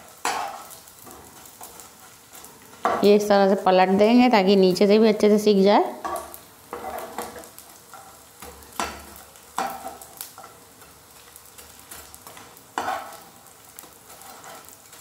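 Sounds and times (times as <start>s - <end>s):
metal spoon scraping a pan: 0.0s - 3.2s, 6.0s - 15.0s
gum sizzling in hot oil: 0.0s - 15.0s.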